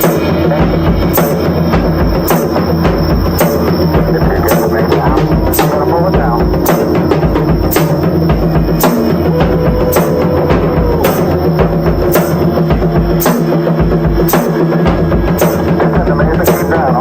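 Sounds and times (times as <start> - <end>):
drumming: 0.0 - 17.0
low hum: 0.2 - 16.6.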